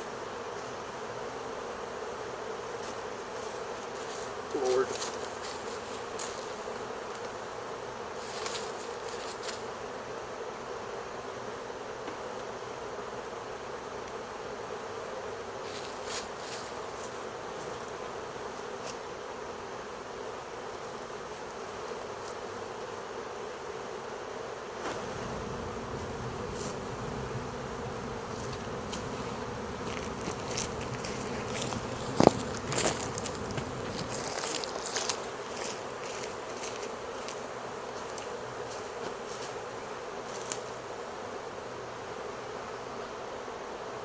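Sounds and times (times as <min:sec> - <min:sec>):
swarming bees buzzing: 0:00.0 - 0:44.0.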